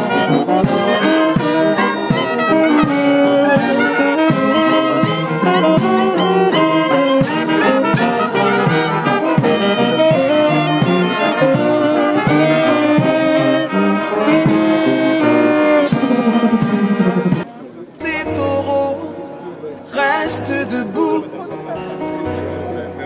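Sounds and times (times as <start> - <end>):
steady drum beats: 0.0 - 18.6
brass band playing: 0.0 - 22.8.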